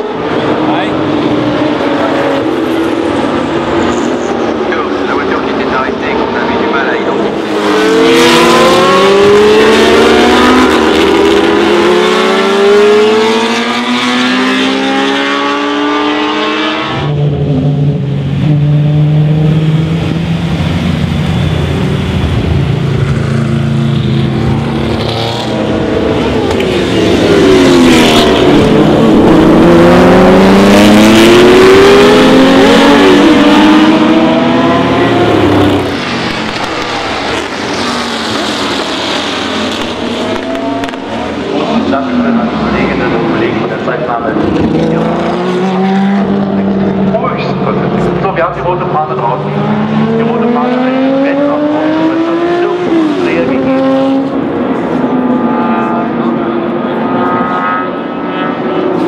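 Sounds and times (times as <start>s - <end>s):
race car accelerating through upshifts: 0.0s - 59.0s.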